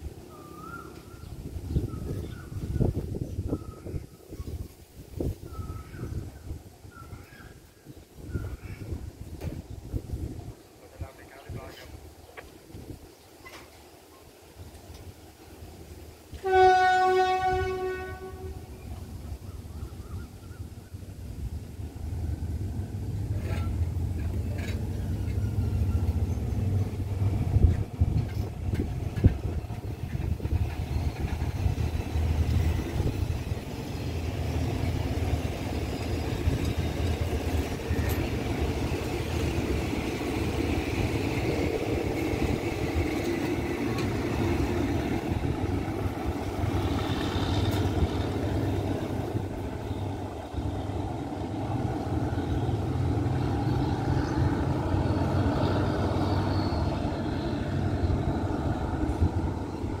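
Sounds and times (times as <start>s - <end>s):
train wheels rumbling on track: 0.0s - 60.0s.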